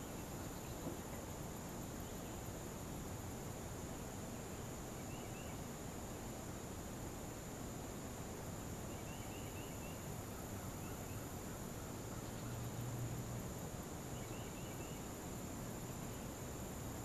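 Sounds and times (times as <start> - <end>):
crickets droning: 0.0 - 17.0.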